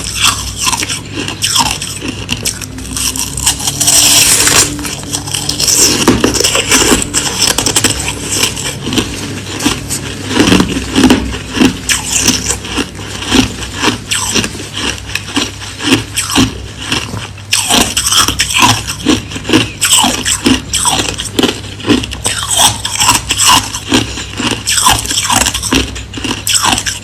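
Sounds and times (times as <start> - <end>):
crushed ice being chewed: 0.0 - 27.0.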